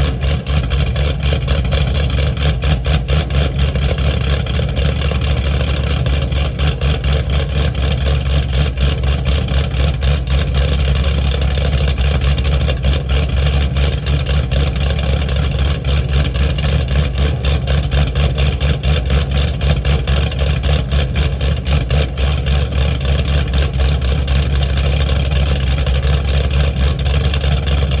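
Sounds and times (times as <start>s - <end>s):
car engine idling with choppy exhaust: 0.0s - 28.0s.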